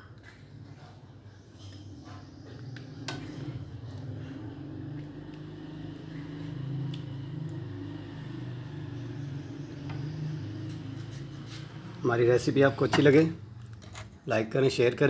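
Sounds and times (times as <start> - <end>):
low mechanical hum: 0.0 - 14.3.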